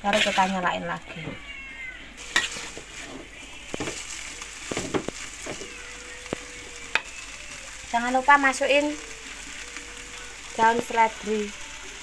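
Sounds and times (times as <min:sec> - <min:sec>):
metal spatula scraping wok: 0:00.0 - 0:01.3, 0:02.2 - 0:12.0.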